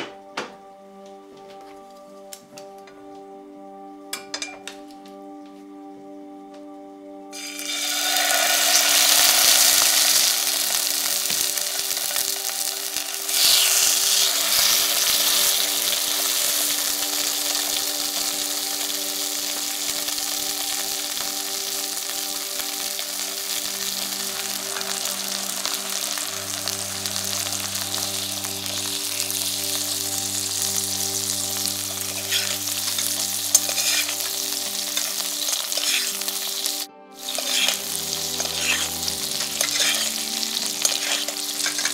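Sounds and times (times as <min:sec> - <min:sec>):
meat sizzling in oil: 0:07.4 - 0:41.9.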